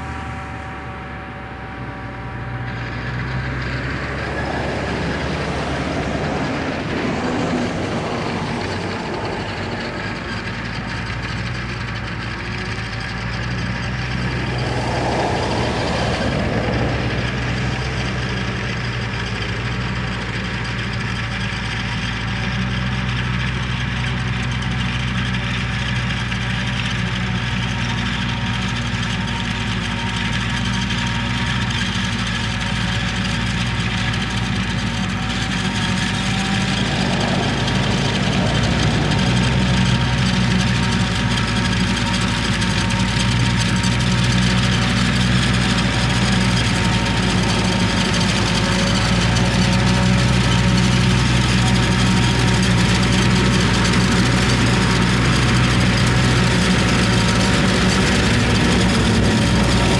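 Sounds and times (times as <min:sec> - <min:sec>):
constant machine tones: 0:00.0 - 0:59.9
harvester diesel engine drone: 0:00.0 - 0:59.9.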